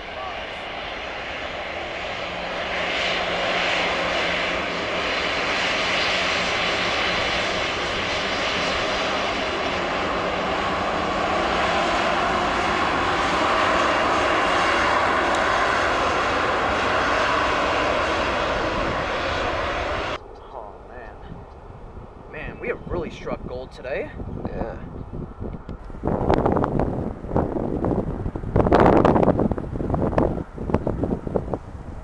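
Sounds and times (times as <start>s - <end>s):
airliner jet engines: 0.0s - 32.0s.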